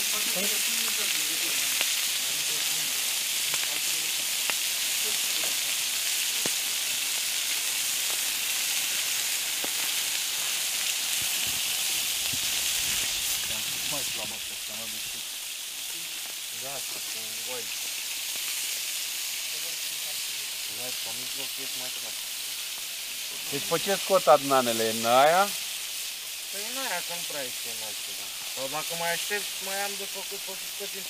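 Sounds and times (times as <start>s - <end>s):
meat patties sizzling in a pan: 0.0s - 31.0s.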